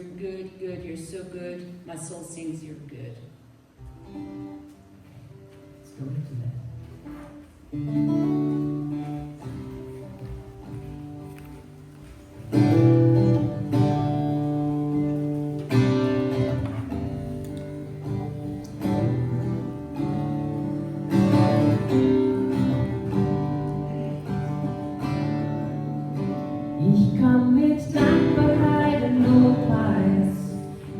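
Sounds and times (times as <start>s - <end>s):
acoustic guitar strumming chords: 3.7s - 30.9s.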